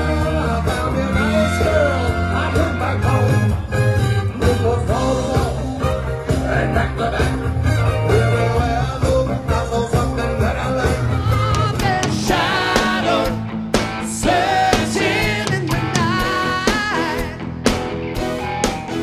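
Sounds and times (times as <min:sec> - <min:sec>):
person singing: 0:00.0 - 0:17.5
upbeat band music: 0:00.0 - 0:19.0.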